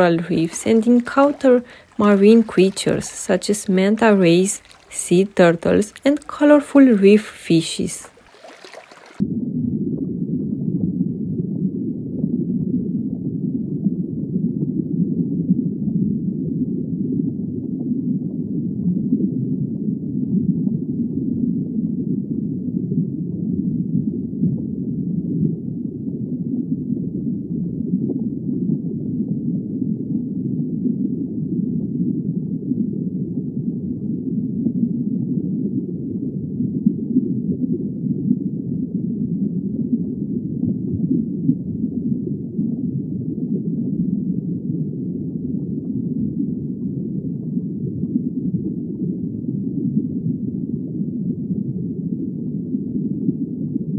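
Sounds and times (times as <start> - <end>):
muffled underwater rumble: 0.0 - 53.9.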